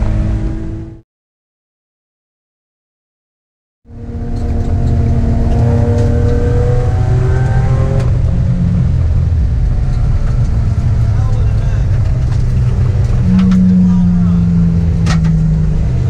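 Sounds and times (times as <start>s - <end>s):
road noise: 0.0s - 1.0s, 3.9s - 16.0s
sports car engine from cabin: 0.0s - 1.0s, 3.9s - 16.0s.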